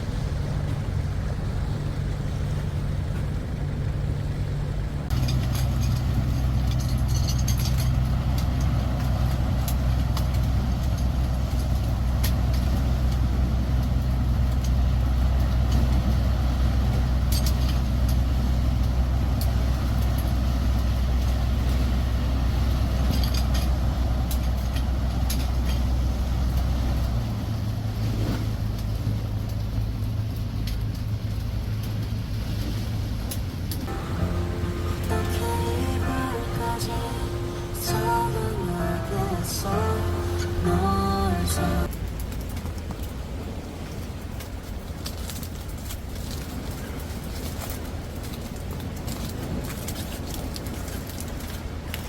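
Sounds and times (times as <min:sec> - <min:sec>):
engine droning: 0:00.0 - 0:42.7.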